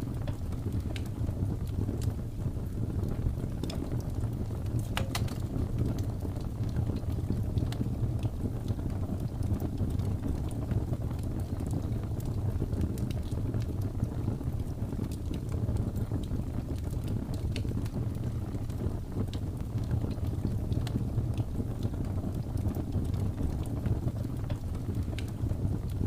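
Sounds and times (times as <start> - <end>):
fireplace crackling: 0.0 - 26.0
low rumble of blizzard wind: 0.0 - 26.0.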